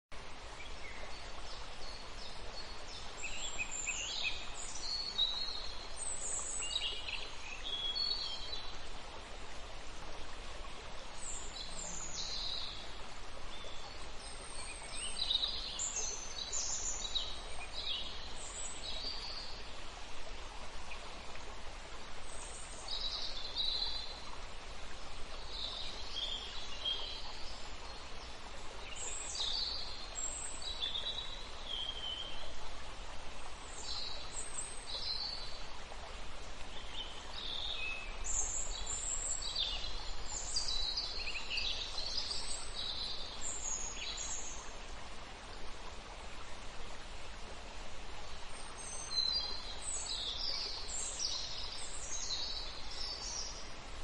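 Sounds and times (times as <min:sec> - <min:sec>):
steady background hiss: 0:00.1 - 0:54.0.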